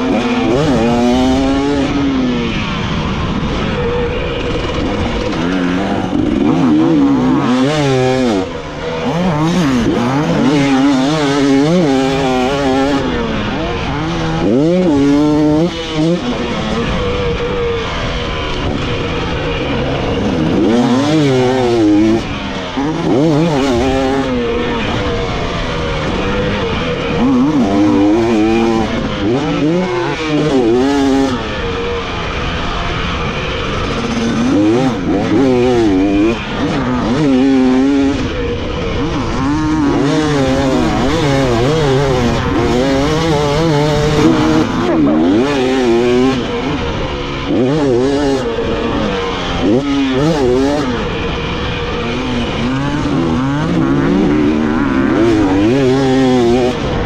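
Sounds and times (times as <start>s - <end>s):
dirt bike engine revving: 0.0s - 57.0s
lower-pitched bike engine: 0.0s - 57.0s.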